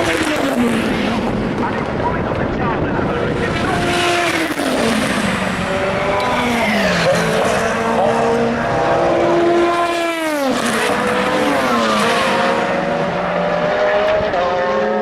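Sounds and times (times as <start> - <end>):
race car engines: 0.0 - 15.0
race car passing close: 0.0 - 15.0.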